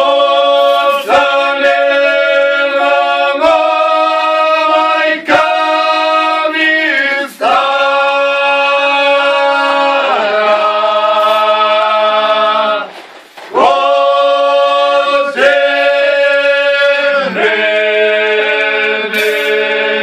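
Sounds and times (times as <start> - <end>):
men singing a cappella: 0.0 - 20.0.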